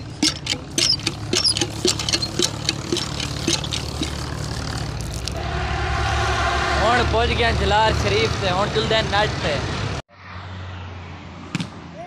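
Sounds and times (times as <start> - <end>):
low engine hum: 0.0 - 10.8.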